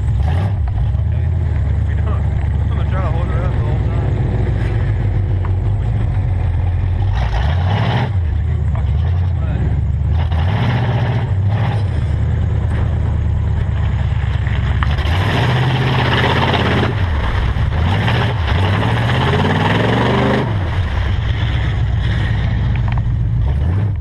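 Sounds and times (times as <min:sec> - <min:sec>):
pickup truck engine revving: 0:00.0 - 0:24.0
spinning tires churning mud: 0:00.0 - 0:24.0.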